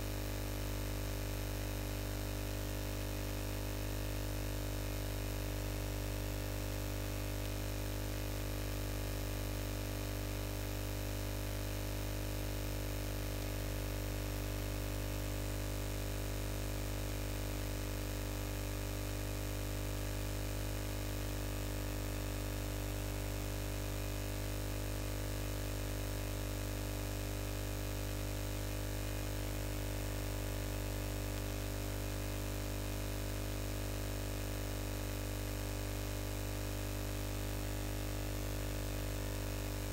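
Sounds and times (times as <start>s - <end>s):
electrical hum and buzz: 0.0s - 36.8s, 37.7s - 39.9s.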